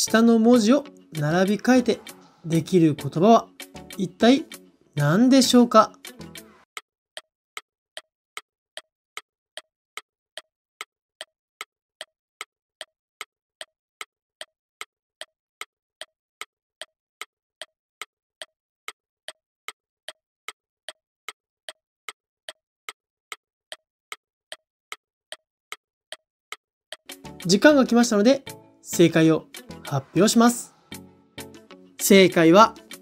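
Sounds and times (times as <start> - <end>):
clock ticking: 0.1 - 30.0.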